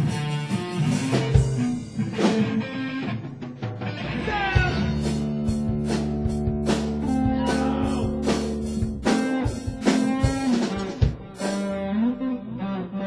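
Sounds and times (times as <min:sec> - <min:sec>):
guitar chords: 0:00.0 - 0:13.0.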